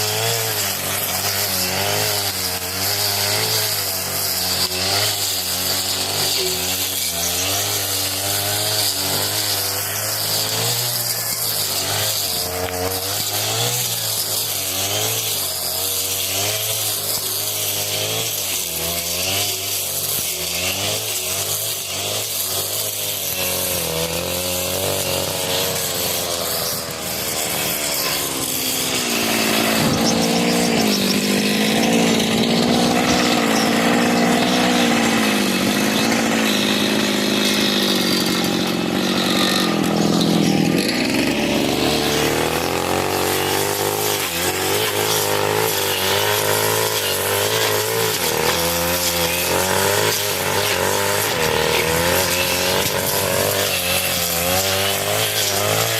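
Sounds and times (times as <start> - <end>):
brush cutter engine at high throttle: 0.0 - 55.9.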